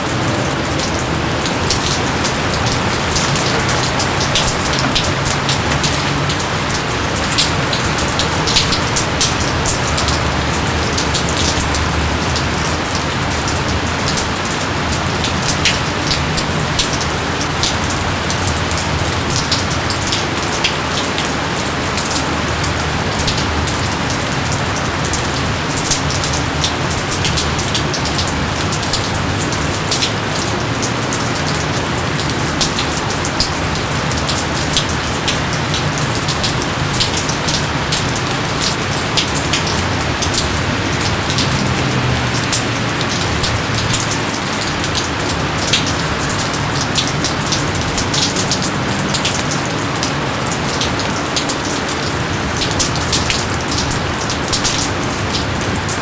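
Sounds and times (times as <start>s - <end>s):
heavy rain falling: 0.0s - 56.0s
raindrops ticking on surfaces: 0.0s - 56.0s.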